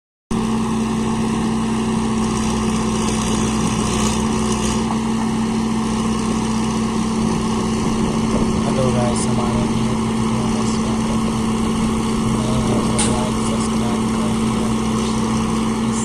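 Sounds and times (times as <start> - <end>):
diesel engine running steadily: 0.3 - 16.0.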